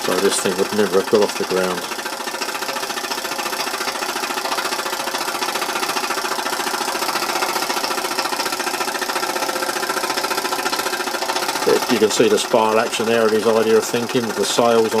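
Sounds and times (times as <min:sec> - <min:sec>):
model steam engine running: 0:00.0 - 0:15.0
propeller clattering: 0:00.0 - 0:15.0.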